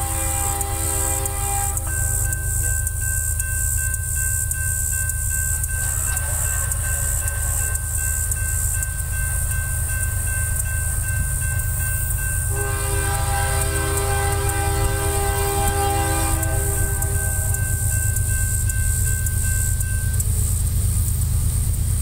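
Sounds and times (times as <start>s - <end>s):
distant locomotive air horn: 0.0s - 3.8s, 5.4s - 19.6s
constant low rumble: 0.0s - 22.0s.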